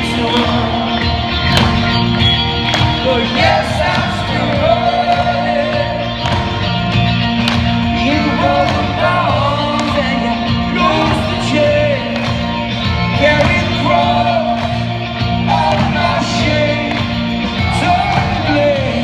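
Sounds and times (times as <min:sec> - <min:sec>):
man singing: 0:00.0 - 0:01.3, 0:03.0 - 0:06.3, 0:07.9 - 0:19.0
live rock band playing: 0:00.0 - 0:19.0.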